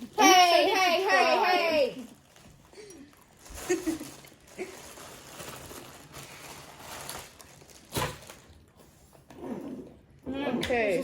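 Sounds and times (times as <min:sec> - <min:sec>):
rustling and handling noises: 0:00.0 - 0:09.3.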